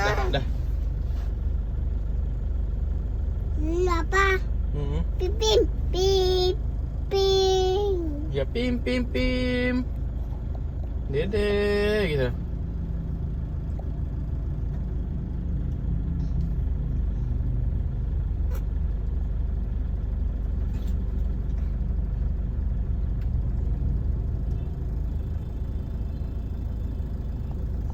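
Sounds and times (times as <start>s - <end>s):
vehicle engine rumbling: 0.0s - 27.9s.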